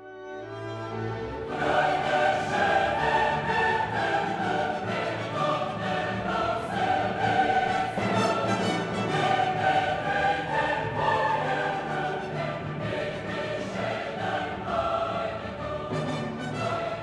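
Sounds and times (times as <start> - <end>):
choir singing with orchestra: 0.0 - 17.0.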